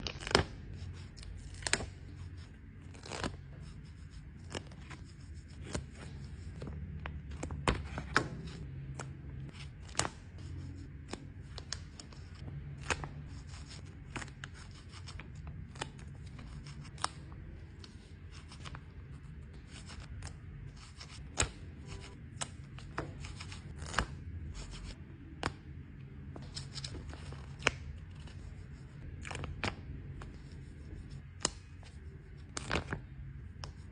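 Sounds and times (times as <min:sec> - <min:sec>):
stickers peeling and pressing: 0:00.0 - 0:33.9.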